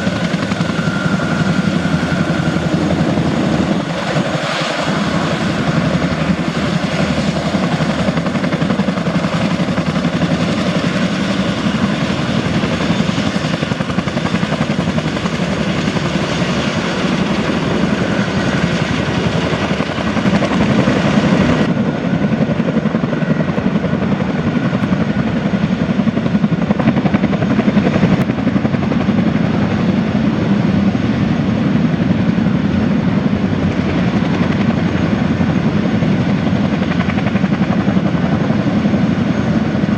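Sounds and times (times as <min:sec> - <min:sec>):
helicopter rotor blades beating: 0:00.0 - 0:39.9
turbine engines: 0:00.0 - 0:39.9.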